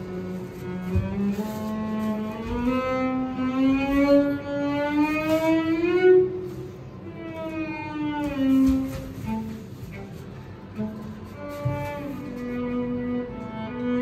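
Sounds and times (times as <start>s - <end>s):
cello bowed note: 0.0s - 14.0s.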